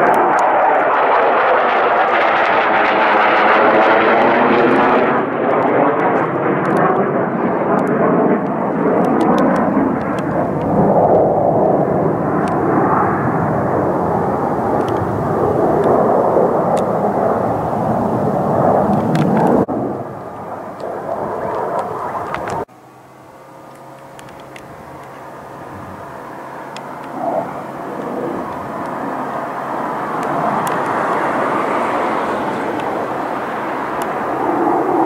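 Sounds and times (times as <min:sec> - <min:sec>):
jet flying past overhead: 0:00.0 - 0:35.0.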